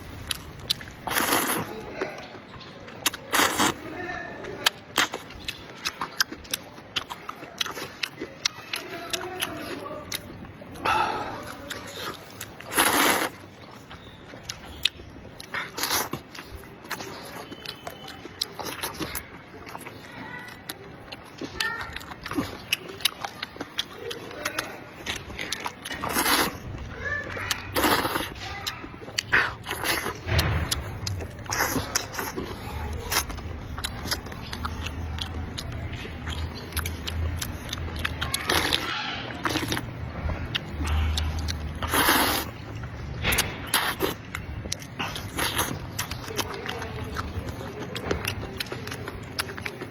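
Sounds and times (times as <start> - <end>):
chewing and mouth clicks: 0.0 - 3.8, 4.4 - 49.9
noisy bursts of eating: 0.0 - 49.9.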